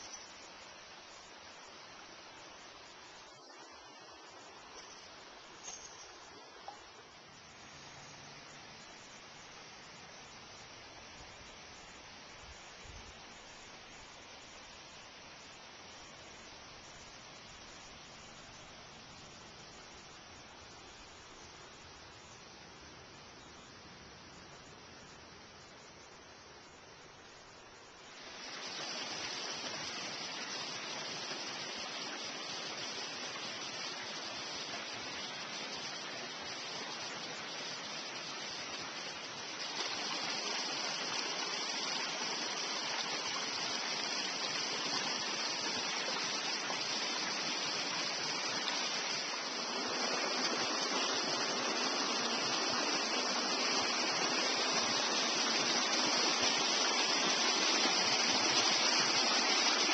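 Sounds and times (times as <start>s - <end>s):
creek running over rocks: 0.0s - 22.0s, 27.6s - 59.9s.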